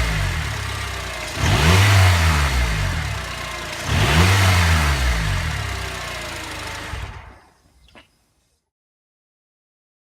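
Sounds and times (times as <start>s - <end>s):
faint car engine: 0.0s - 8.3s.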